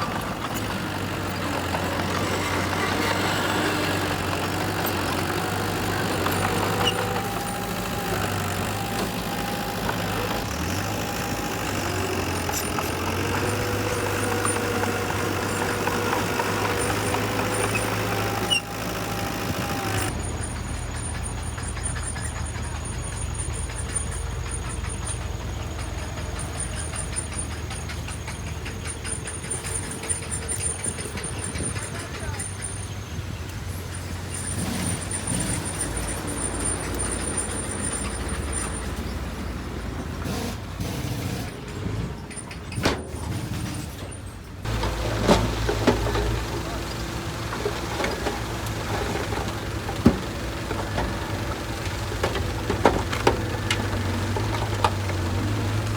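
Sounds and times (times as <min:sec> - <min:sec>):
heavy machinery rumbling: 0:00.0 - 0:55.9.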